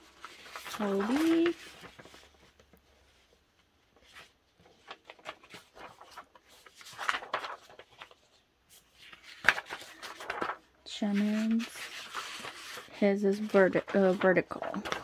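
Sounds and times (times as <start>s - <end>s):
sharp paper crackle: 0.0s - 3.3s, 3.9s - 15.0s
paper pages rustling: 0.0s - 15.0s.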